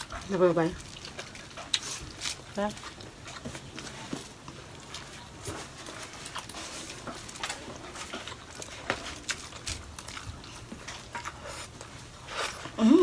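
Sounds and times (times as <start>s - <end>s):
chewing with wet smacks: 0.0s - 13.0s.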